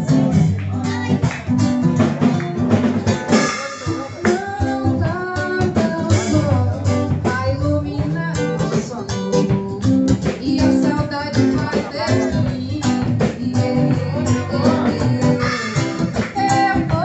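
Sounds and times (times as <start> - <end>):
person singing: 0.0 - 17.0
strummed acoustic guitar: 0.0 - 17.0.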